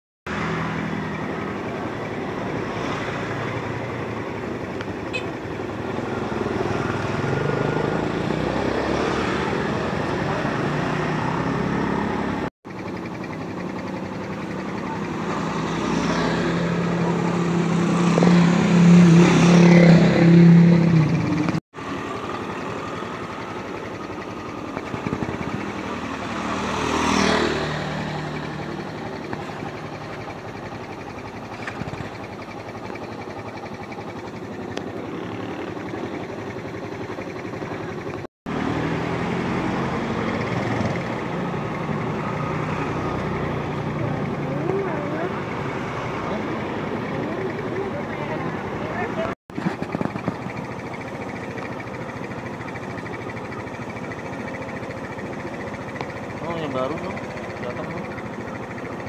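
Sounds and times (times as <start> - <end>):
traffic passing: 0.3 - 59.0.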